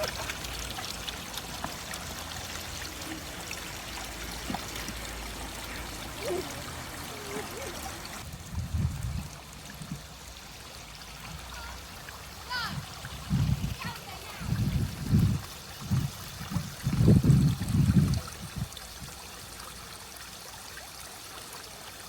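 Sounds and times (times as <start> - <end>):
stream water gurgling: 0.0 - 22.0.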